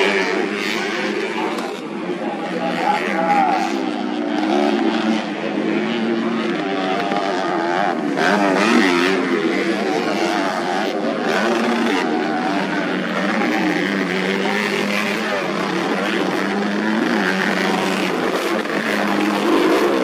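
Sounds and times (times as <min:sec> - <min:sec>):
motorcycles revving hard: 0:00.0 - 0:20.0.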